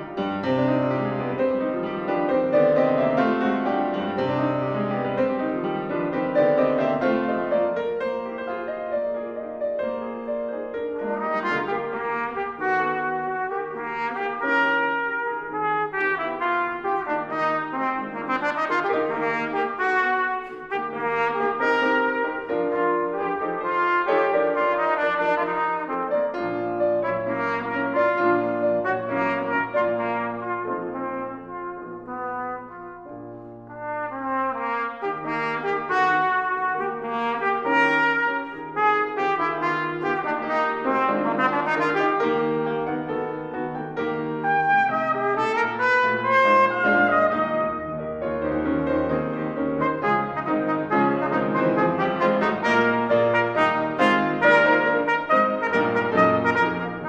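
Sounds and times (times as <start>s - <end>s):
cornet playing a melody: 0.0s - 57.0s
grand piano accompaniment: 0.0s - 57.0s.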